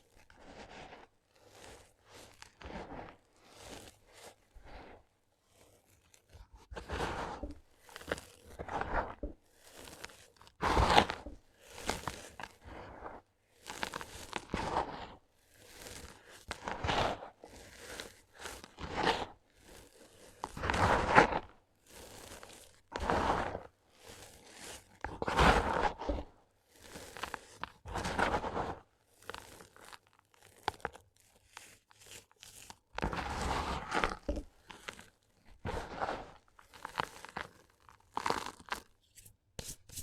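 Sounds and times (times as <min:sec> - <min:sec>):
sand cement crunching: 0:00.0 - 0:40.0.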